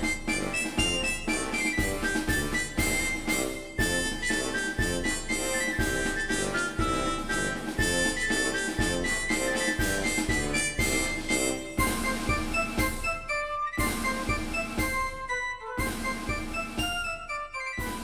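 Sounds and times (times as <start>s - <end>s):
background music with steady beat: 0.0s - 18.0s.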